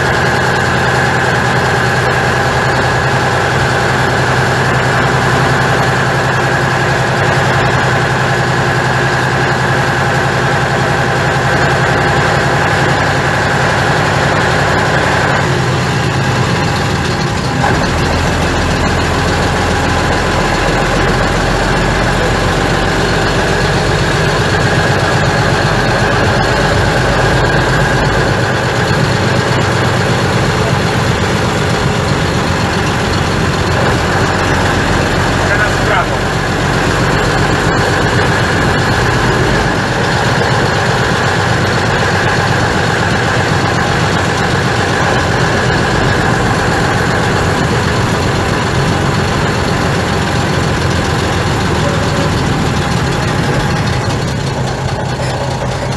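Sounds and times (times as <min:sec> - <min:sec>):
bus diesel engine running: 0:00.0 - 0:55.9.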